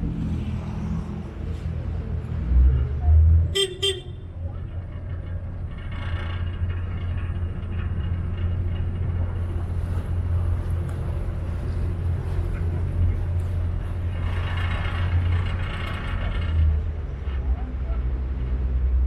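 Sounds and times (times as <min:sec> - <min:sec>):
boat diesel engine drone: 0:00.0 - 0:19.0.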